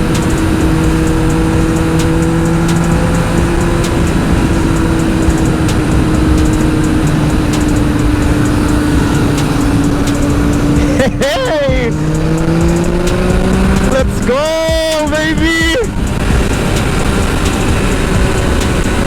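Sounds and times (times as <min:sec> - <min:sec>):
motorcycle engine cruising: 0:00.0 - 0:19.0
wind noise rushing: 0:00.0 - 0:19.0.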